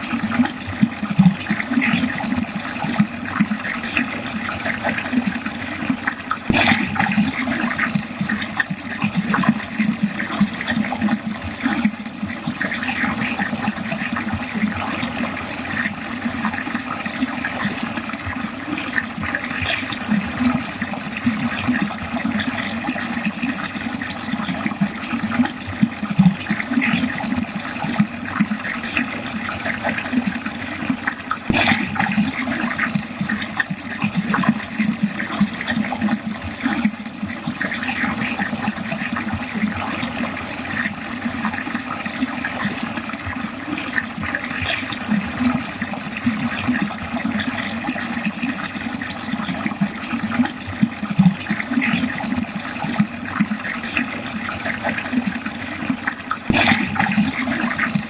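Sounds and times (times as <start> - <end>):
water running down a drain: 0.0 - 58.0.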